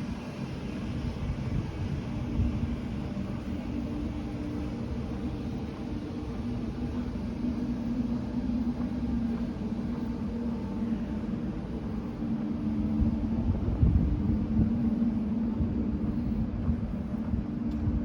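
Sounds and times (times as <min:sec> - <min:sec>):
steady low hum: 0:00.0 - 0:18.0
wind buffeting microphone: 0:00.0 - 0:18.0.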